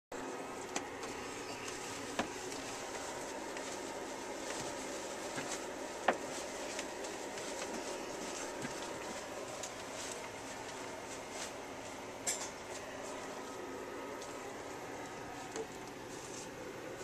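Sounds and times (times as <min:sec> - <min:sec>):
room hum: 0:00.1 - 0:17.0.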